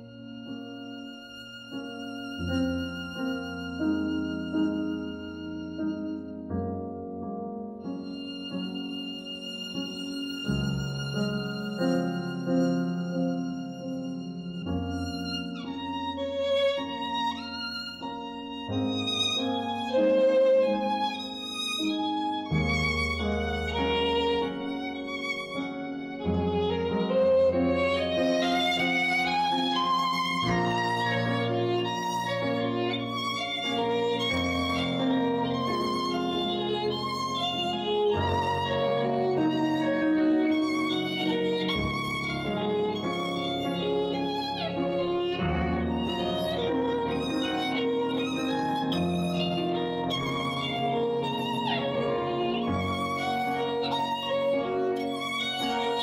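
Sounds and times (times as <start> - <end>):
violin slow melody: 0.0 - 56.0.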